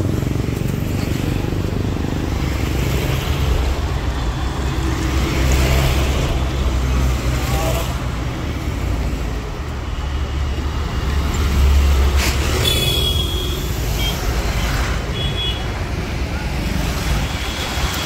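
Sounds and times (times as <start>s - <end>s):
road traffic rumbling: 0.0s - 18.0s.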